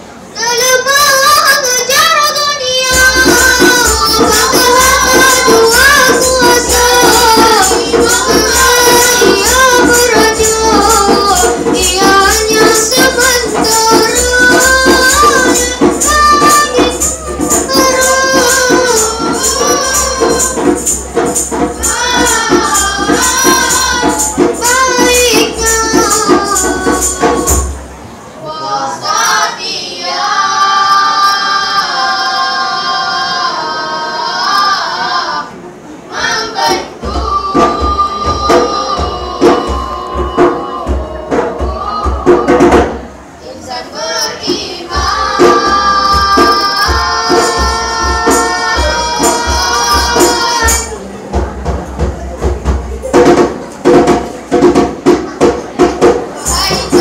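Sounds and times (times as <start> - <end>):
rhythmic percussion: 0.0 - 57.0
boys singing together: 0.4 - 57.0.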